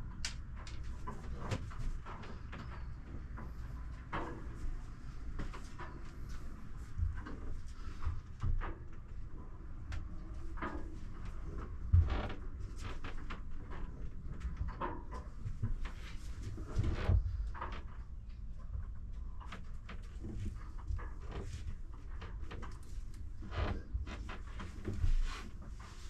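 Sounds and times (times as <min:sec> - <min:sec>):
knocks clicks and creaks: 0:00.0 - 0:26.0.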